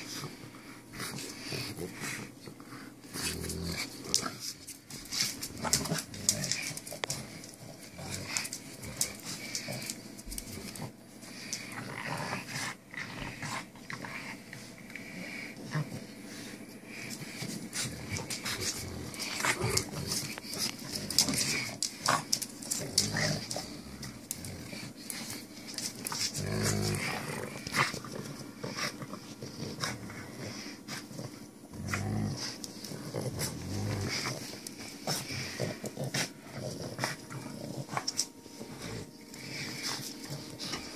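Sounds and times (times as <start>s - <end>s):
dogs growling playfully: 0.0s - 40.9s.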